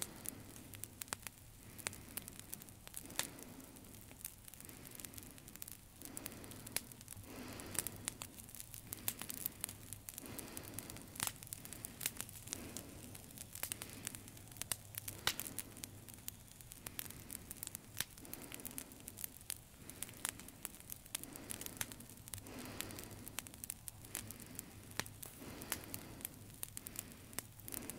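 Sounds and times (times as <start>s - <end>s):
crackling with sharp clicks: 0.0s - 27.9s.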